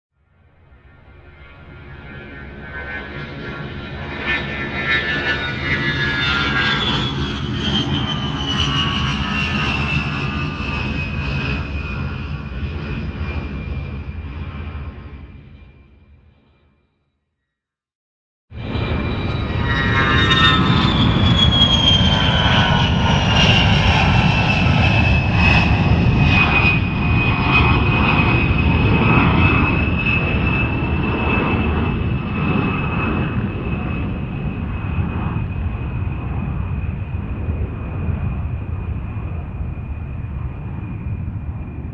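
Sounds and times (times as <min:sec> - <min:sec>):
aircraft engine rumble and whine: 0:00.2 - 0:16.8, 0:18.6 - 0:41.9.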